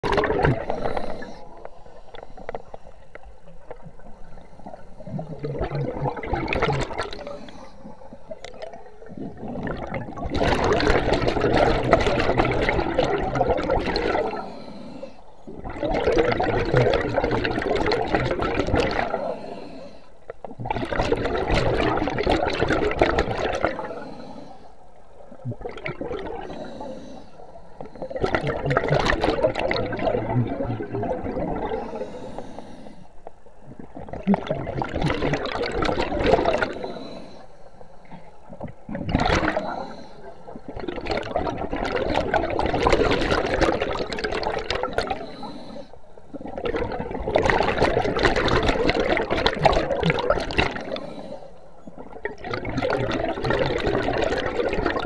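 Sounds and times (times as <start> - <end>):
underwater bubbles gurgling: 0.0 - 55.0.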